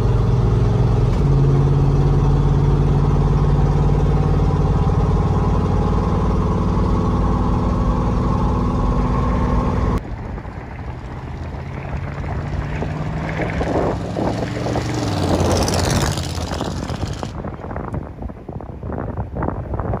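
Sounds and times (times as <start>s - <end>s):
truck engine passing by: 0.0s - 17.4s.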